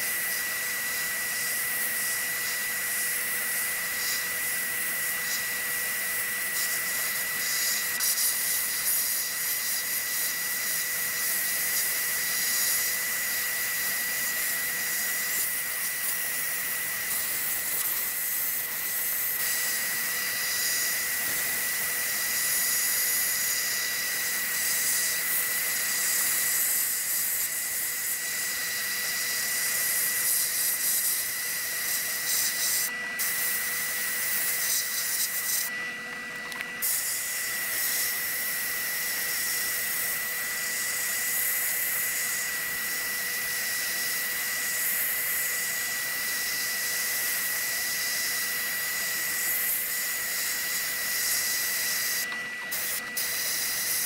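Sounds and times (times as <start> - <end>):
sandblast gun hissing: 0.0 - 35.8, 36.7 - 54.0.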